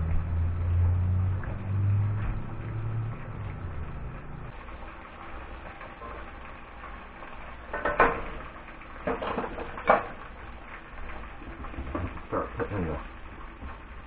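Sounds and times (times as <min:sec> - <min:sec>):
fish sizzling in deep oil: 0:00.0 - 0:14.0.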